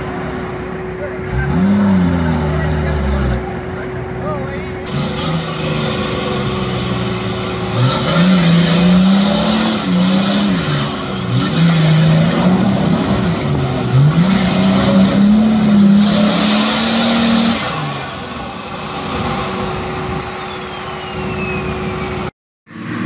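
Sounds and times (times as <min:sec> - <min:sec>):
engine revving hard under load: 0:01.2 - 0:03.8, 0:04.8 - 0:22.1.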